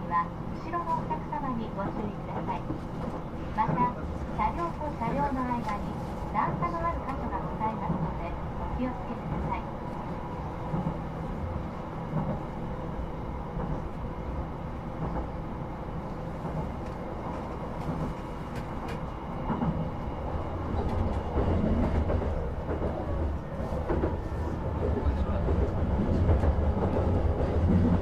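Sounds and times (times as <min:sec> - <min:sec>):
train wheel and rail rumble: 0:00.0 - 0:28.0.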